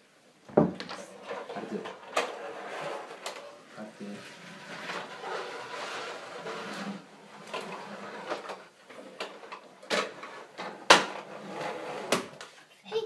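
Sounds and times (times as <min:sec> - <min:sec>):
toy trucks rolling on wooden floor: 0:00.7 - 0:12.5.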